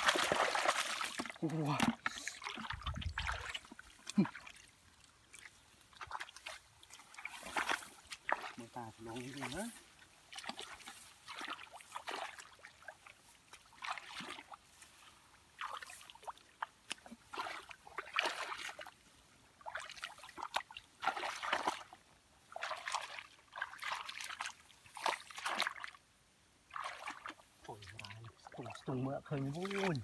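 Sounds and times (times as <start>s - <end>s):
muddy water splashing: 0.0s - 30.0s.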